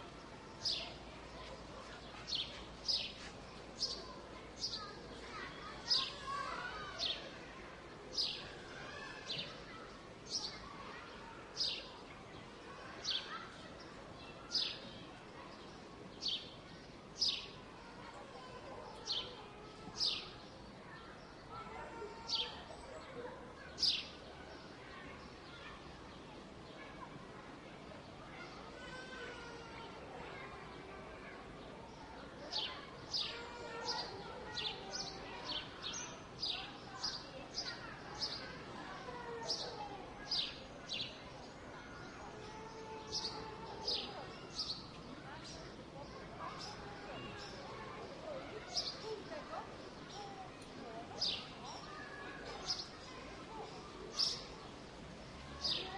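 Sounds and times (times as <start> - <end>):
city background noise: 0.0 - 55.9
murmur of distant voices: 0.0 - 55.9.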